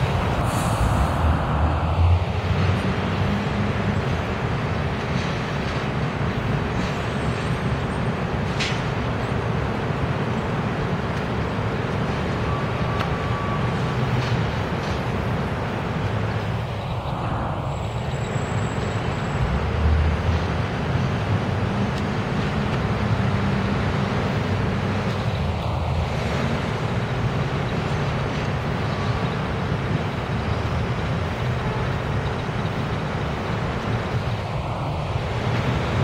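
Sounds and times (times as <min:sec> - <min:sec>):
subway train wheels on rails: 0:00.0 - 0:36.0.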